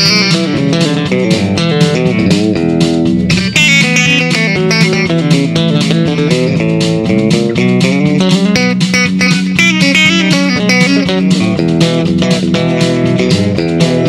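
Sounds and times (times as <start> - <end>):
electric guitar country picking: 0.0 - 14.0.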